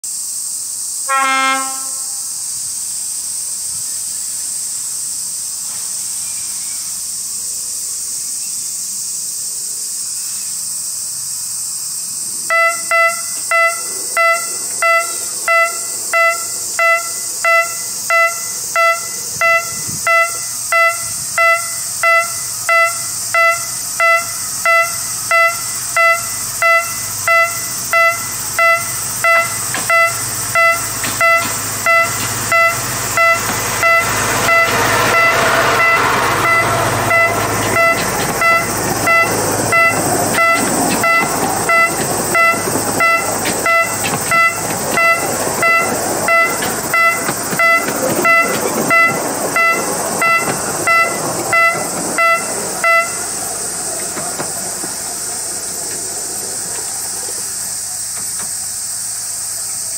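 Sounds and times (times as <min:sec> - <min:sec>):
steady high hiss: 0:00.0 - 0:59.9
diesel locomotive approaching: 0:00.1 - 0:59.9.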